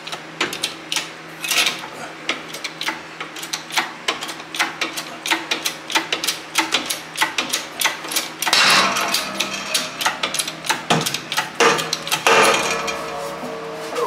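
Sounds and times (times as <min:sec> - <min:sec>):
hydraulic press clicking: 0:00.1 - 0:13.0.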